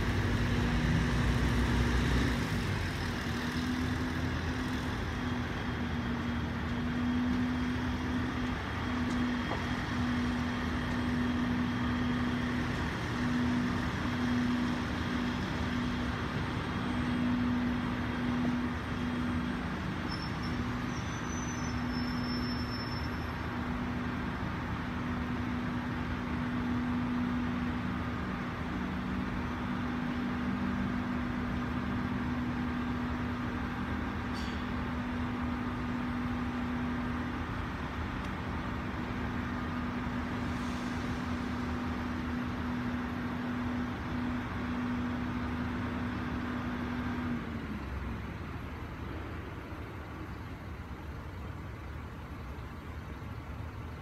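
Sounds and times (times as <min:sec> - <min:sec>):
diesel engine idling hum: 0:00.0 - 0:54.0.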